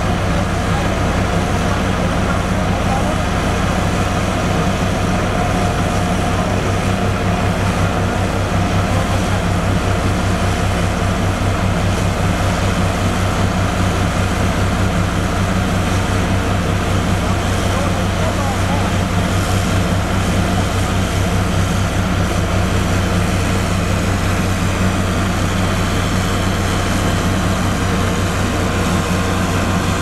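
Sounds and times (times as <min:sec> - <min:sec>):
diesel roller engine droning: 0:00.0 - 0:30.0.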